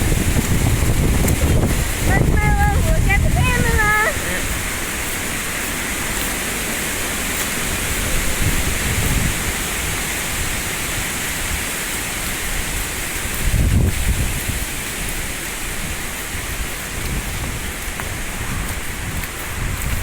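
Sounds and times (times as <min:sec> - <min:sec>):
wind gusts on microphone: 0:00.0 - 0:20.0
wind rushing through leaves: 0:00.0 - 0:20.0.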